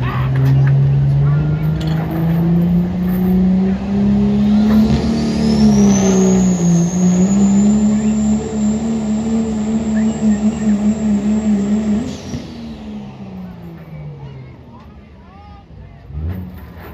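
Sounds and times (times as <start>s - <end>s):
turbocharger whine: 0.0s - 15.1s
diesel truck engine under load: 0.0s - 15.2s, 15.8s - 16.9s.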